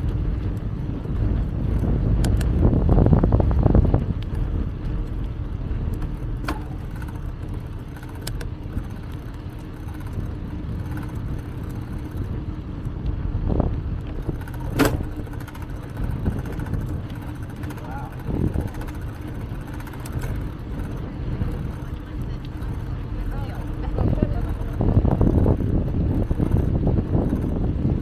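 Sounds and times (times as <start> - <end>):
bicycle clicks and rattles: 0.0 - 28.0
wind and tyre rumble: 0.0 - 28.0.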